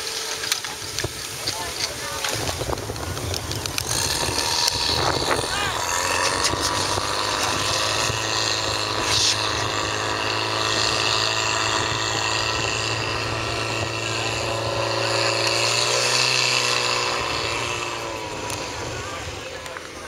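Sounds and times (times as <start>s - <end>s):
pump engine running at high revs: 0.0s - 20.0s.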